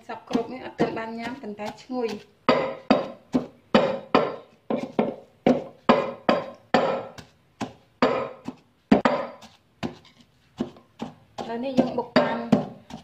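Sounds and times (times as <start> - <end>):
pestle pounding in mortar: 0.0 - 13.0.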